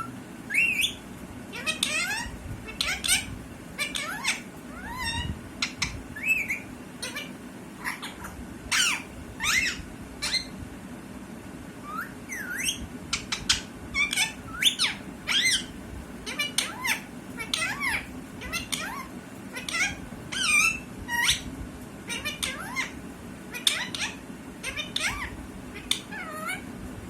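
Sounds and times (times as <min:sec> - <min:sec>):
parrot squawking and chirping: 0:00.0 - 0:10.6, 0:11.8 - 0:21.5, 0:22.1 - 0:26.7.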